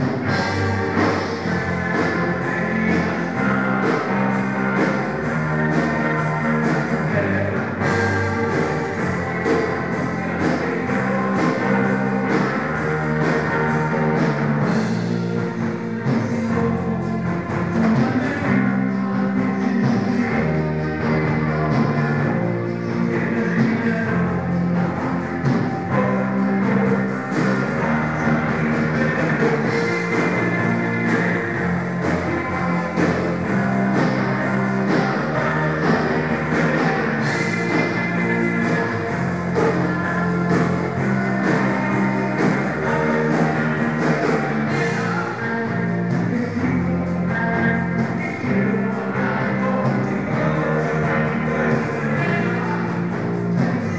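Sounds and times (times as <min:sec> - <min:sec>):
drum kit with cymbal hits: 0:00.0 - 0:53.9
electric bass: 0:00.0 - 0:53.9
electric guitar chords: 0:00.0 - 0:53.9
rock band playing live: 0:00.0 - 0:53.9.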